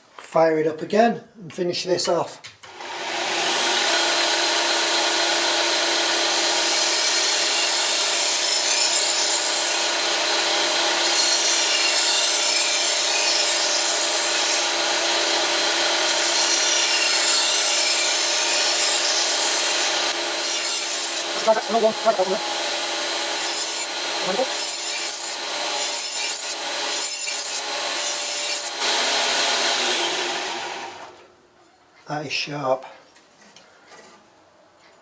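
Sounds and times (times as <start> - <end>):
belt grinder whine: 2.6 - 31.2.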